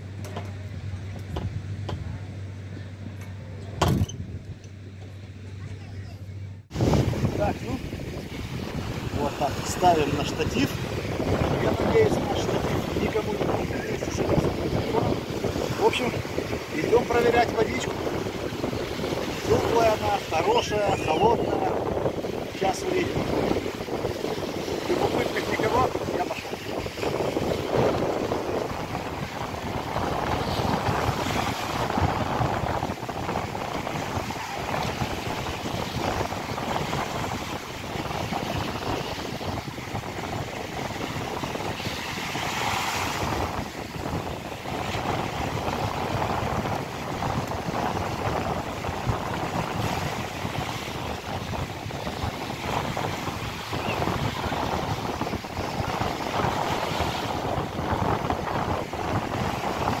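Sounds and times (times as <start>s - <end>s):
wind buffeting microphone: 0.0s - 60.0s
waves breaking on sandy beach: 6.7s - 60.0s.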